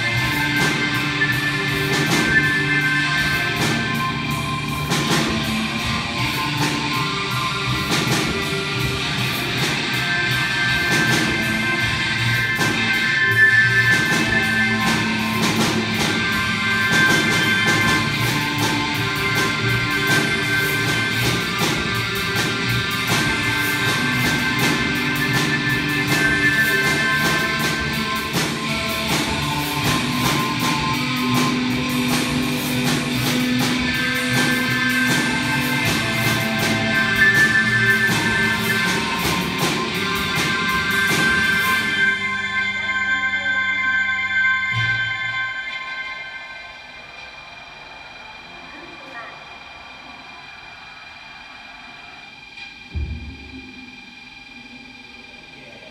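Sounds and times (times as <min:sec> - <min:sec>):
bass guitar: 0:00.0 - 0:46.1
electric guitar: 0:00.0 - 0:47.2
drum and cymbal hits: 0:00.0 - 0:55.9.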